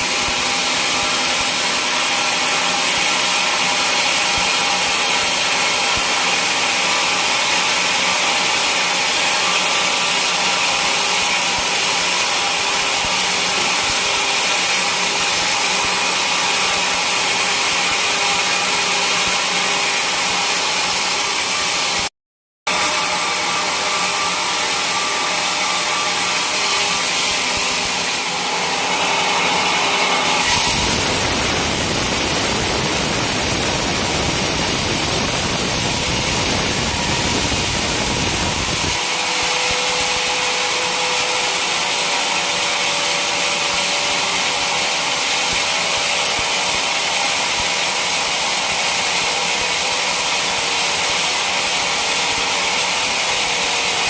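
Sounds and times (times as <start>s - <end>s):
saw cutting through log: 0.0s - 22.1s, 22.7s - 54.0s.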